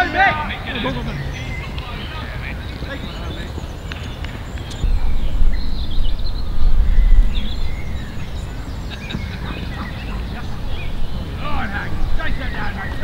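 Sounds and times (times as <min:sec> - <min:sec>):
birds chirping: 0:00.0 - 0:13.0
wind rumbling on microphone: 0:00.0 - 0:13.0.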